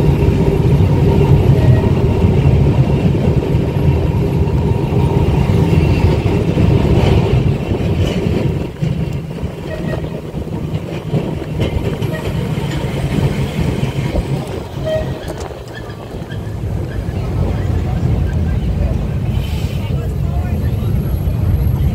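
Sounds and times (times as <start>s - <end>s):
tram rumbling on rails: 0.0s - 21.9s.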